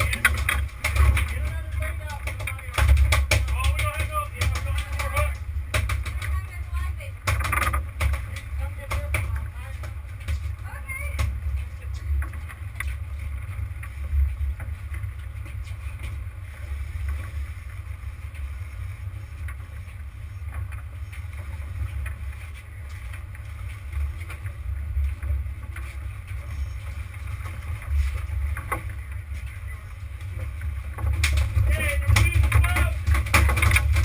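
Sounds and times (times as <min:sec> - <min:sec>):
boat rumbling: 0:00.0 - 0:34.0
faint clicks and knocks: 0:00.0 - 0:34.0.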